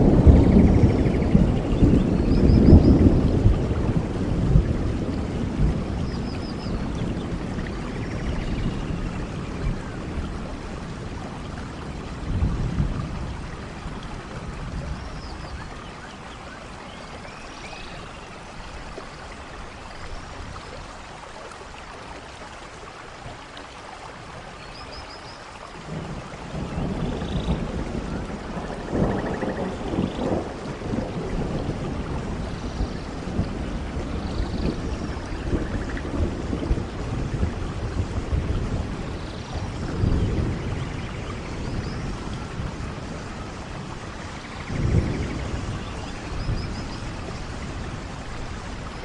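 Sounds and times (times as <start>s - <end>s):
low thunder rumbling: 0.0s - 17.2s, 25.8s - 49.0s
steady rain in forest: 0.0s - 49.0s.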